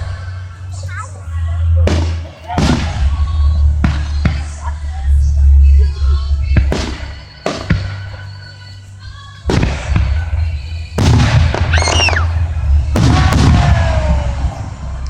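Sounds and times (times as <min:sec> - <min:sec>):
fireworks crackling: 0:00.0 - 0:15.0
fireworks booming: 0:01.8 - 0:08.4, 0:09.4 - 0:15.0.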